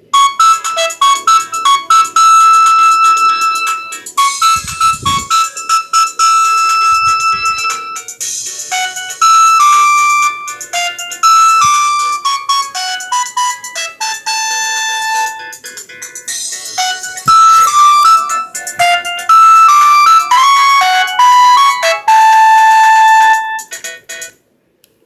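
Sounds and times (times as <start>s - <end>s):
synthesized ringtone melody: 0.0s - 24.3s.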